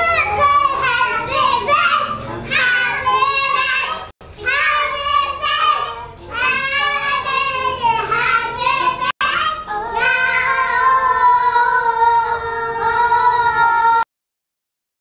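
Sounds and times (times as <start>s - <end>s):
young children singing: 0.0s - 14.0s.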